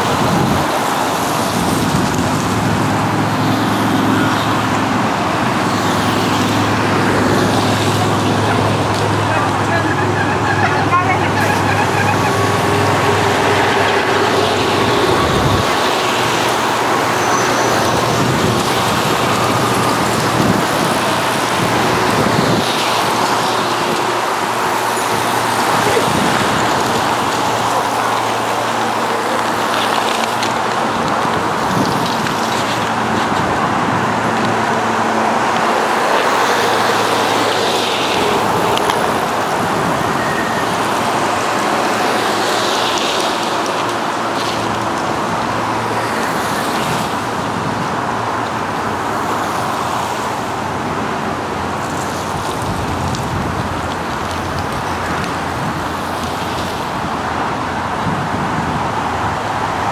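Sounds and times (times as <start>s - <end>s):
bicycles coasting on wet tarmac: 0.0s - 59.9s
traffic hiss: 0.0s - 59.9s.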